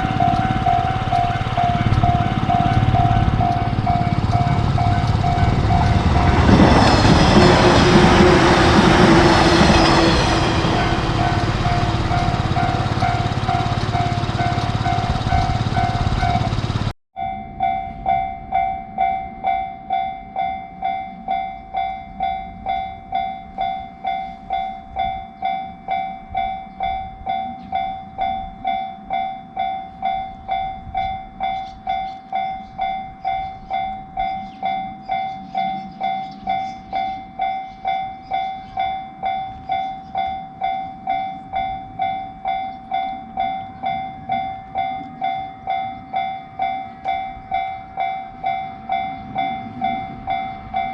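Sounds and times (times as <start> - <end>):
level-crossing warning bell ringing: 0.0 - 50.9.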